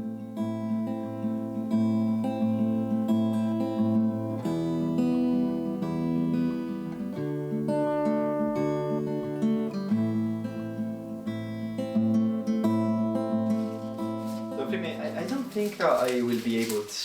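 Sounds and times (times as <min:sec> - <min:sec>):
acoustic guitar chords: 0:00.0 - 0:15.8.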